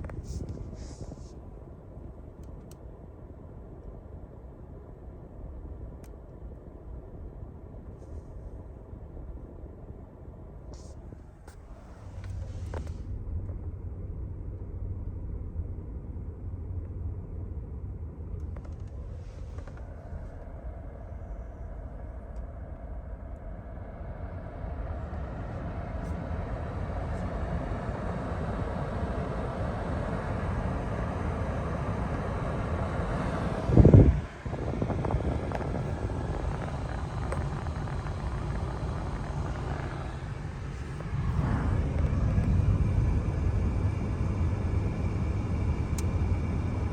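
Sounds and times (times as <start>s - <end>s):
road and engine rumble: 0.0s - 46.9s.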